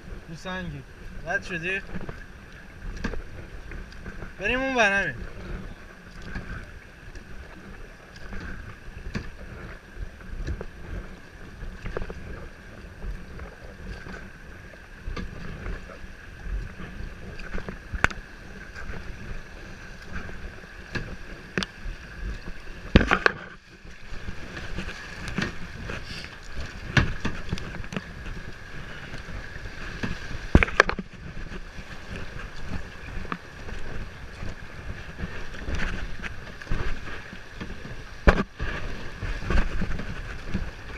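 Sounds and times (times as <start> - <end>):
paddle knocks and splashes: 0.0 - 40.9
water wash: 0.0 - 40.9
wind noise on microphone: 0.0 - 40.9.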